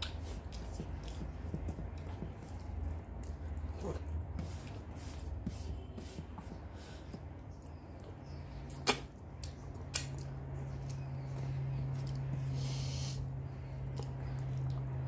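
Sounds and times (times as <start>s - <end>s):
soft chewing and mouth noises: 0.0s - 15.0s
steady low hum: 0.0s - 15.0s.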